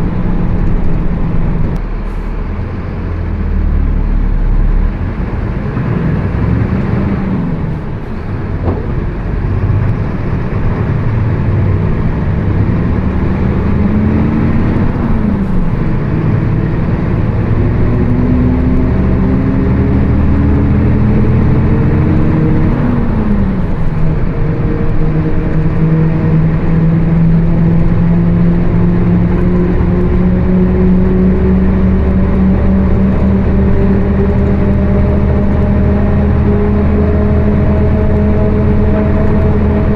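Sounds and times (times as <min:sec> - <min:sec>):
bus engine accelerating through gears: 0:00.0 - 0:39.9.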